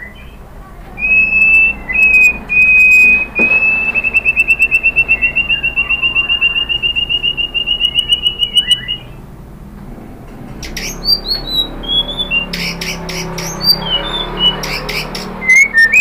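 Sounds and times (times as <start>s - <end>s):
bird whistling and trilling: 1.0s - 9.2s, 10.7s - 16.0s.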